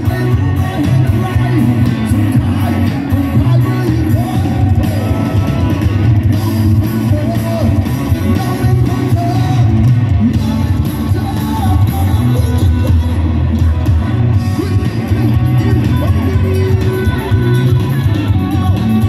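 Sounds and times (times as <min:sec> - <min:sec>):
electric guitar: 0:00.0 - 0:19.0
heavy bass: 0:00.0 - 0:19.0
person singing: 0:00.0 - 0:19.0
rock band playing live: 0:00.0 - 0:19.0.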